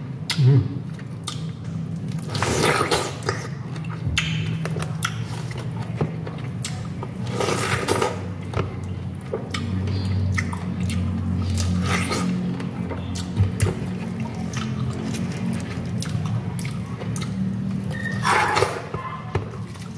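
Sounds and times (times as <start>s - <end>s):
chewing: 0.3s - 19.9s.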